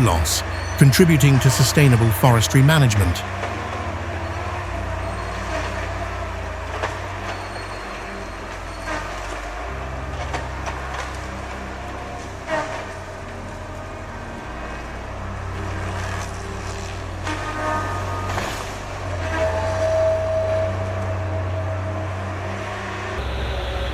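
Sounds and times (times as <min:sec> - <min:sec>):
diesel engine droning: 0:00.0 - 0:12.0, 0:12.8 - 0:23.9.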